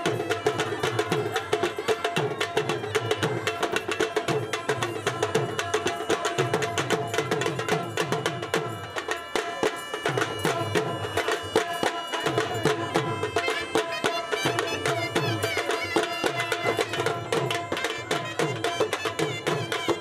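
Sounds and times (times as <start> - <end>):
fast dhol drumming: 0.0 - 20.0.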